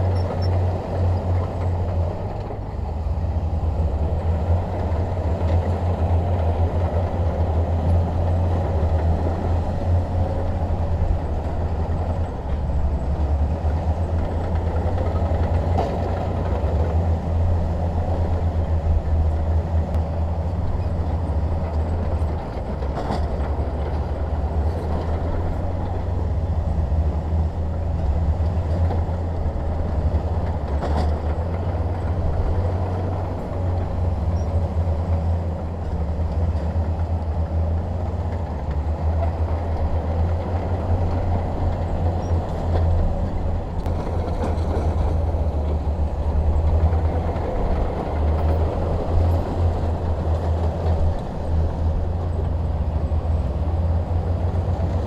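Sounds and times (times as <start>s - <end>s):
bulldozer diesel engine rumbling: 0.0s - 55.0s.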